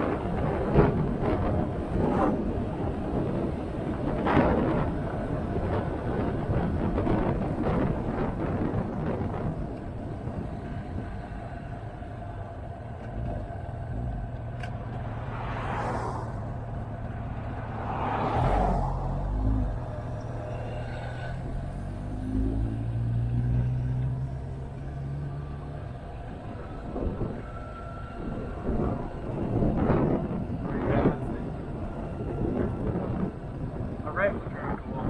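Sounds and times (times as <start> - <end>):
wind rushing on microphone: 0.0 - 35.0.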